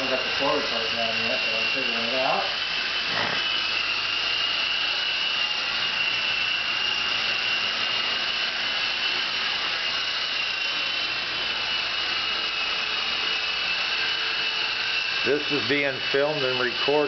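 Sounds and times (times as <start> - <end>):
electric motor whine: 0.0 - 17.0
rotor blades whirring: 0.0 - 17.0.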